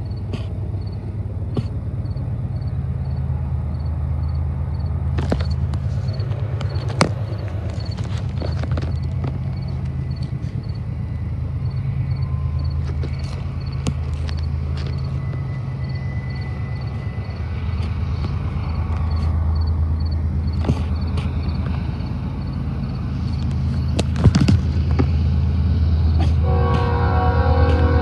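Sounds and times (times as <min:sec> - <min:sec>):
distant diesel locomotive rumble: 0:00.0 - 0:28.0.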